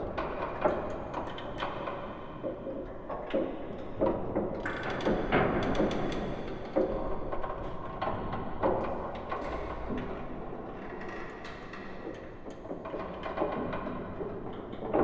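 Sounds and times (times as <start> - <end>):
wooden creaks and knocks: 0.0 - 15.0.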